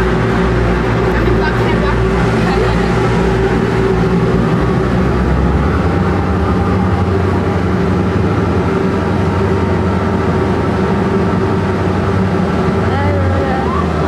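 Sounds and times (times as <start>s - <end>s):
ship engines droning: 0.0s - 14.0s.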